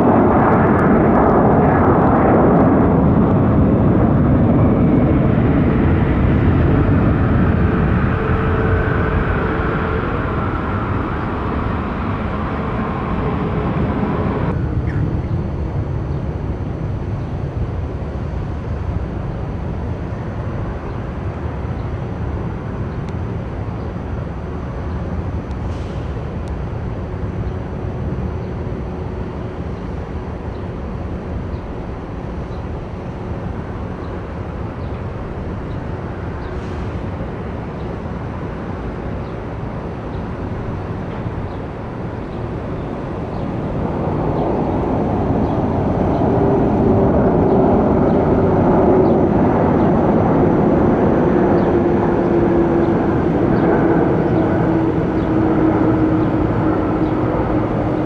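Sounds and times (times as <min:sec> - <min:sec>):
jet aircraft engine rumble: 0:00.0 - 0:58.0.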